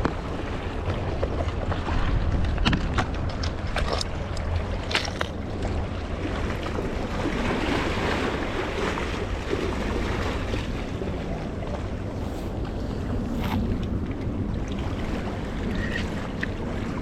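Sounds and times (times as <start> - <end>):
sea water washing against rocks: 0.0 - 17.0
wind noise on microphone: 0.0 - 17.0.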